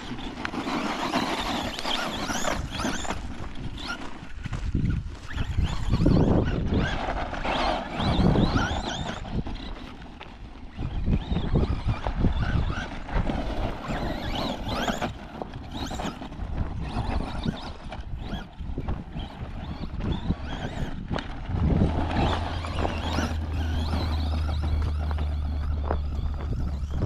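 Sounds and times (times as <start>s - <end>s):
toy car motors whining: 0.0s - 27.0s
wind buffeting microphone: 0.0s - 27.0s.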